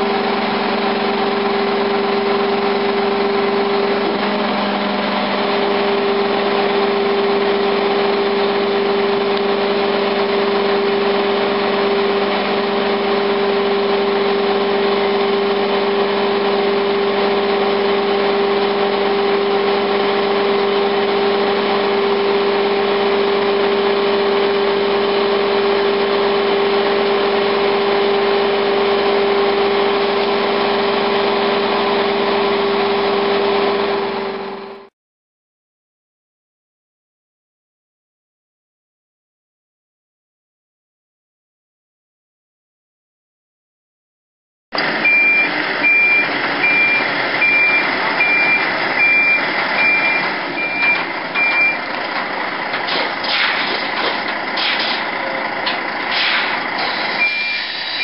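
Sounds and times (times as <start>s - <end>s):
diesel engine running: 0.0s - 34.9s, 44.8s - 58.0s.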